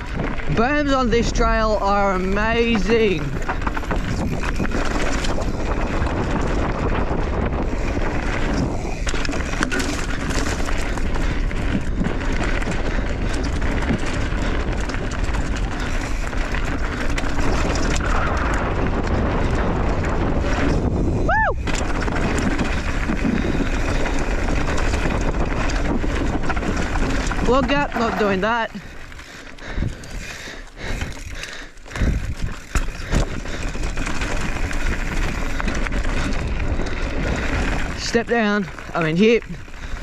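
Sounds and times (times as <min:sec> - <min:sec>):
bike tyres rolling over dirt: 0:00.0 - 0:40.0
wind buffeting microphone: 0:00.0 - 0:40.0.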